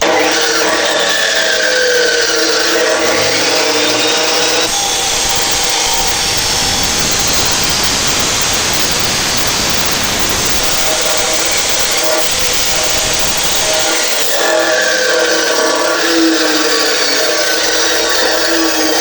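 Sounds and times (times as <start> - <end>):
power tool running: 0.0 - 19.0.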